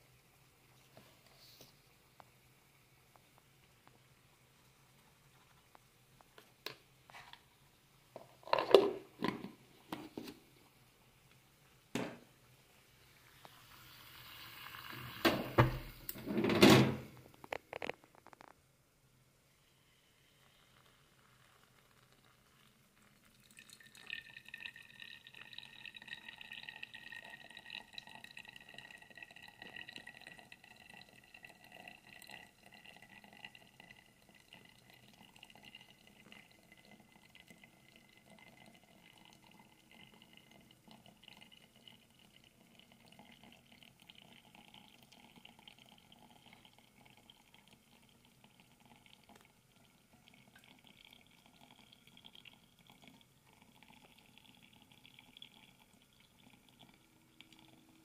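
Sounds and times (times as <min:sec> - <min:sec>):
hot water trickling onto coffee: 0:00.0 - 0:16.4, 0:17.1 - 0:18.7, 0:19.4 - 0:58.0.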